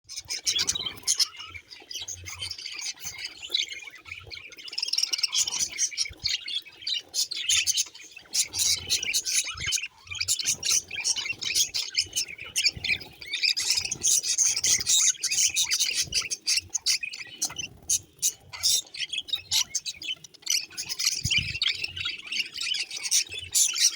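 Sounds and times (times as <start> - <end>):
budgerigars chattering: 0.1 - 23.9.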